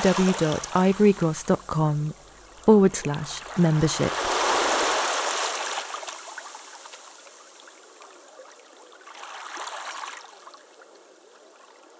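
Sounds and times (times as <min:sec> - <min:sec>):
running water: 0:00.0 - 0:11.9.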